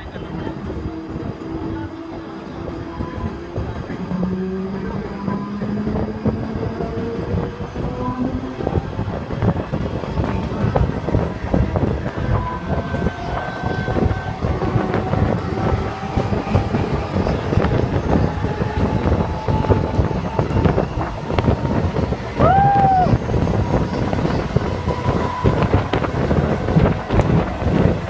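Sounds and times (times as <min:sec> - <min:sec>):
electric train rattling: 0:00.0 - 0:28.0
wind noise on microphone: 0:00.0 - 0:28.0.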